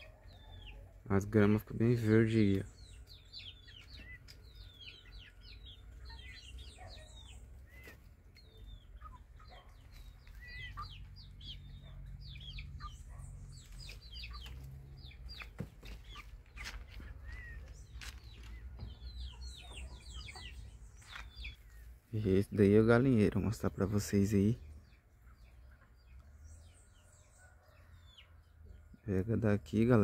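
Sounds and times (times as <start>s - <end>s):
chickens clucking: 0.0s - 30.0s
chicks peeping: 0.0s - 30.0s.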